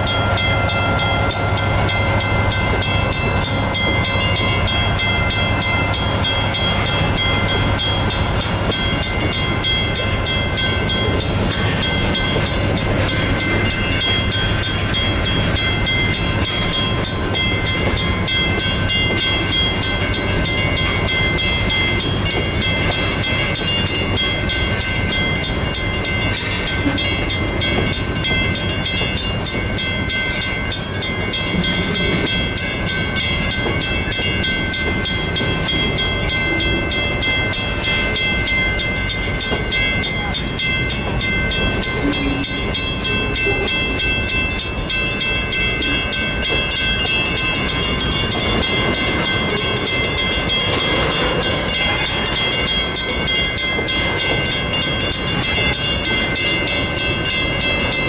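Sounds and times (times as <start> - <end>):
freight train rumbling: 0.0 - 58.0
mechanical crossing bells ringing: 0.0 - 58.0.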